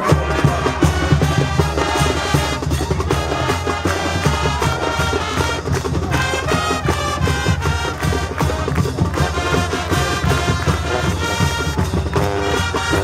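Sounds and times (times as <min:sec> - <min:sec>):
drumline beat: 0:00.0 - 0:13.0
marching band brass: 0:00.0 - 0:13.0.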